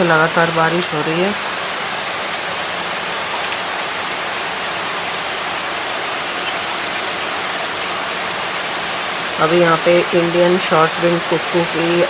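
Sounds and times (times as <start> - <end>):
heavy rain hissing on surfaces: 0.0 - 12.0.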